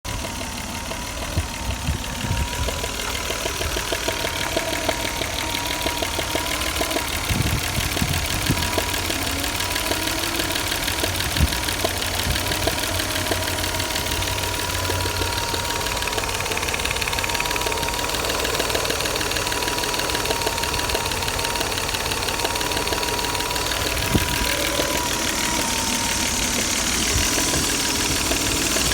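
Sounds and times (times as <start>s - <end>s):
car engine running: 0.0s - 28.9s
sharp ticks: 0.1s - 28.9s.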